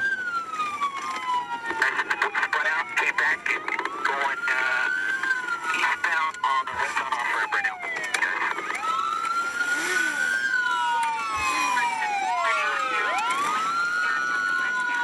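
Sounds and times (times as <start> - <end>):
police sirens wailing: 0.0 - 15.0.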